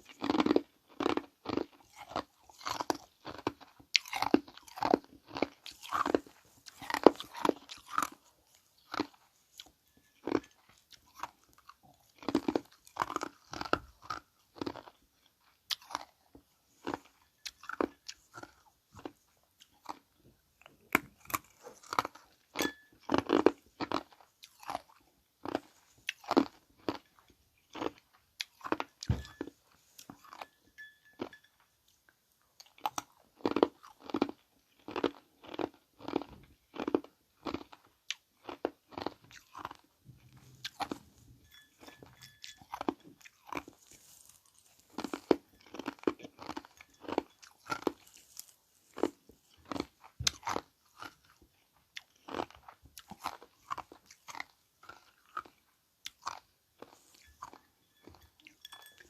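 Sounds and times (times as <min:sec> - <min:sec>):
ice crunching between teeth: 0:00.0 - 0:30.5, 0:41.8 - 0:59.0.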